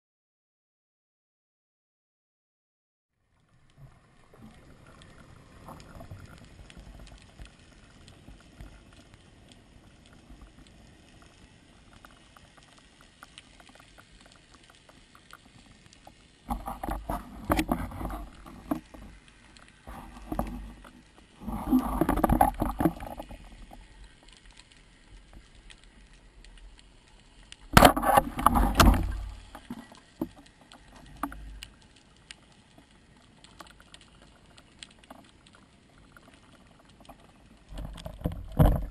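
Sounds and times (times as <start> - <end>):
faint crackling hiss underwater: 3.2 - 38.9
rushing bubbling water: 3.4 - 14.4, 16.4 - 26.8, 27.6 - 38.9.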